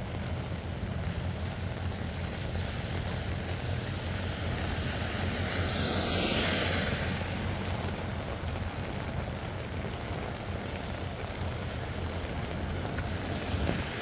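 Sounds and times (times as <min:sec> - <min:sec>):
car tyres hissing on wet road: 0:00.0 - 0:14.0
low rumble of city traffic: 0:00.0 - 0:14.0
steady rain: 0:00.0 - 0:14.0.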